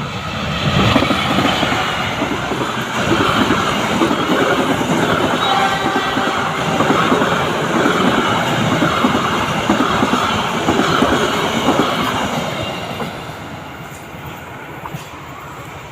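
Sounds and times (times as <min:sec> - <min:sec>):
train wheels clattering on rails: 0:00.6 - 0:15.2.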